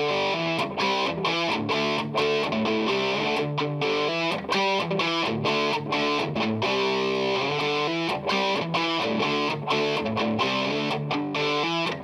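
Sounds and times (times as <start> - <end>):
guitar-led music: 0.0 - 12.0.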